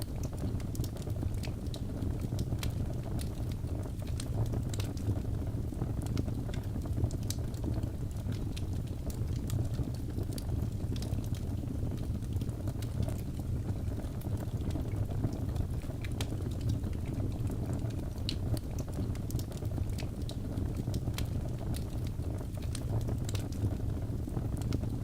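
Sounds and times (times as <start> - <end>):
fire crackles and pops: 0.0 - 25.0
fire rumbling: 0.0 - 25.0.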